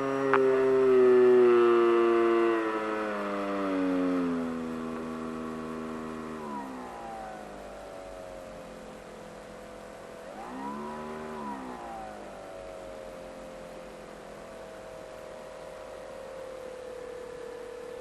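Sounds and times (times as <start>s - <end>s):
model plane motor whine: 0.0s - 18.0s.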